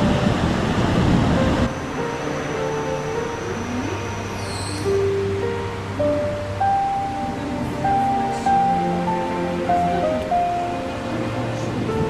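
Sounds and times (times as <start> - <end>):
steady hiss: 0.0 - 12.0
slow music of held notes: 1.4 - 12.0.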